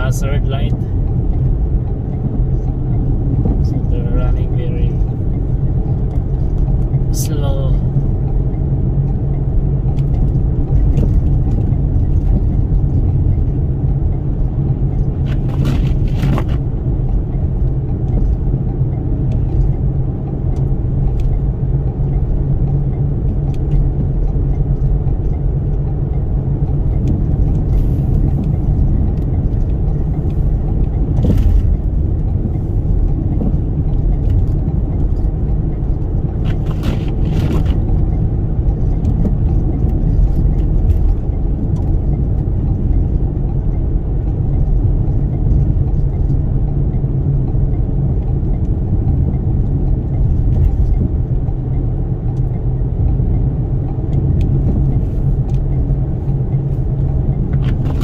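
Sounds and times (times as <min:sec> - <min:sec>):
minivan rumble from inside: 0:00.0 - 0:58.0.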